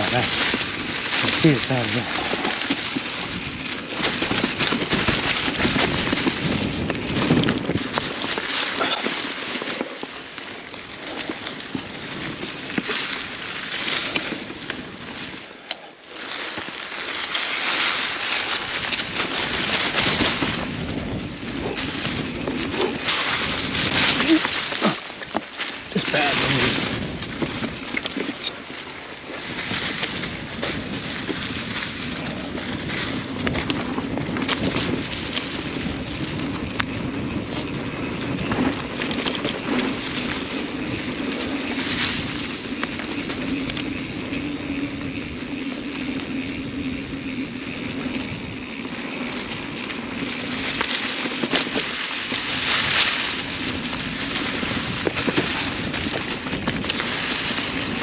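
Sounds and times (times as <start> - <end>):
bike knocks and rattles: 0.0 - 15.5, 16.2 - 58.0
bike tyres crunching over dirt: 0.0 - 58.0.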